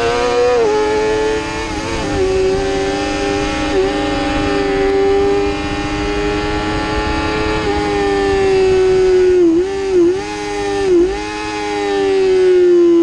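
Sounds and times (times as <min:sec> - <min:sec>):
wind rush: 0:00.0 - 0:12.4
motorcycle engine at high revs: 0:00.0 - 0:13.0.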